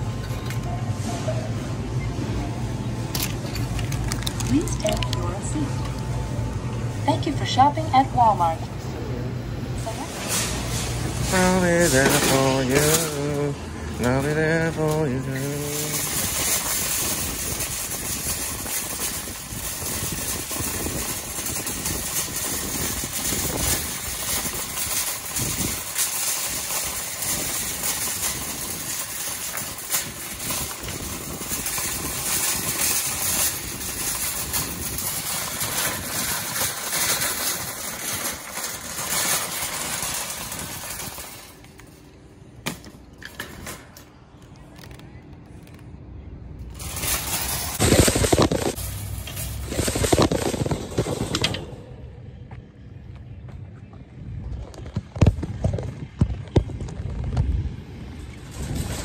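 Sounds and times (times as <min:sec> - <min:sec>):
shopping cart rattling on asphalt: 0:00.0 - 0:06.2, 0:07.0 - 0:08.6, 0:09.8 - 0:52.4, 0:54.6 - 0:59.0.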